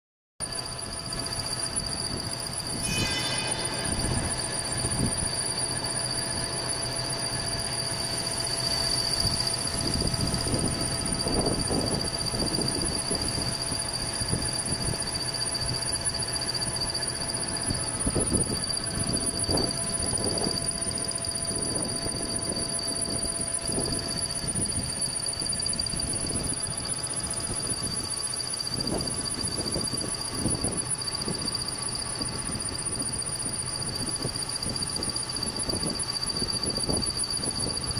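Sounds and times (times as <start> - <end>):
milling machine whine: 0.4 - 37.9.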